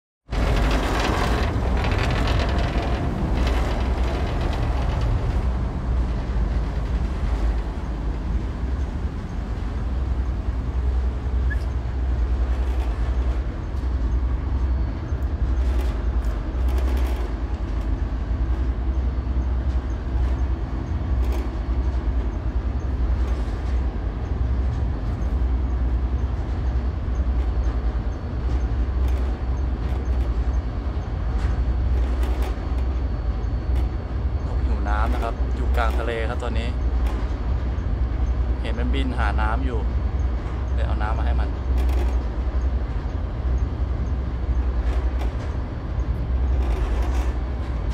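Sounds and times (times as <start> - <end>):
ship engine droning: 0.3 - 47.9.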